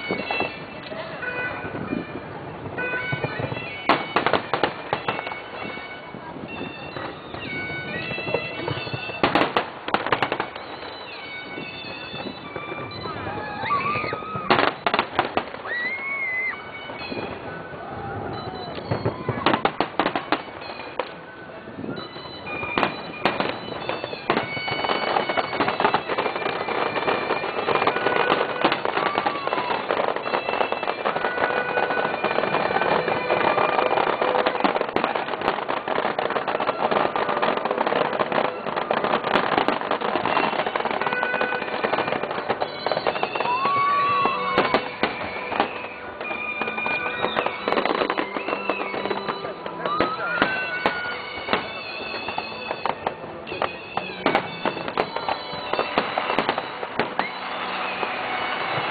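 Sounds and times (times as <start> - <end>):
fireworks crackling and popping: 0.0 - 58.9
fireworks whistling: 0.0 - 58.9.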